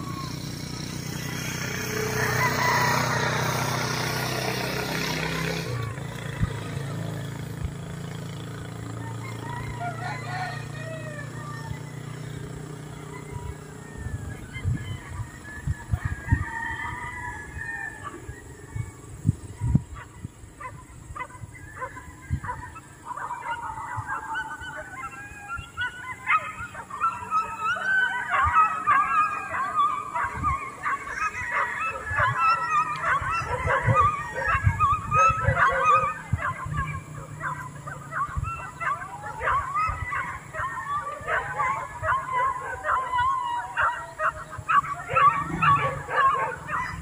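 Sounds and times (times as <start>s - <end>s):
animals crying over one another: 0.0s - 47.0s.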